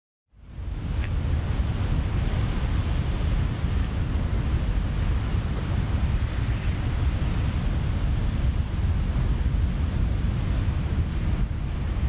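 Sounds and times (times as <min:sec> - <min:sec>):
wind: 0:00.3 - 0:12.0
stormy ocean surf: 0:00.4 - 0:12.0.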